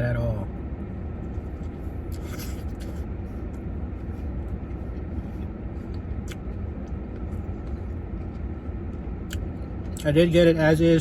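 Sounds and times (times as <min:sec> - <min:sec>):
low rumble like vehicle idling: 0:00.0 - 0:11.0.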